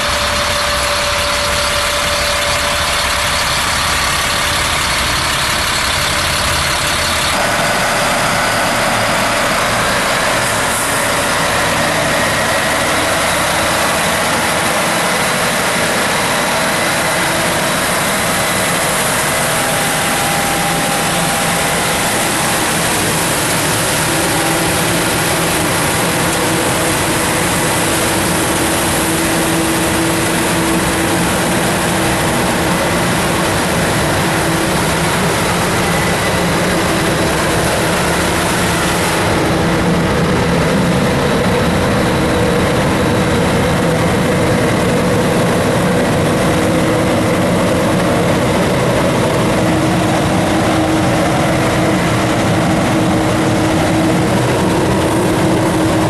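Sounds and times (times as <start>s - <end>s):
vacuum truck engine and air rush: 0.0s - 56.0s.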